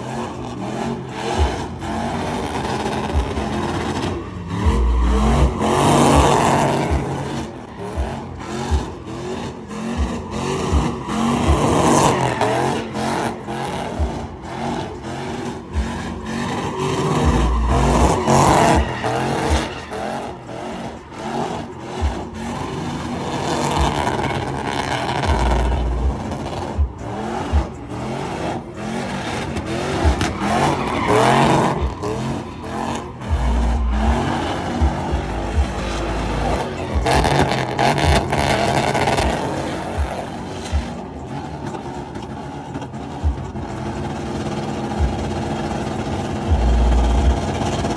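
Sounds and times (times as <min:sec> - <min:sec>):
truck engine revving: 0:00.0 - 0:47.9
tyres squealing: 0:00.0 - 0:47.9.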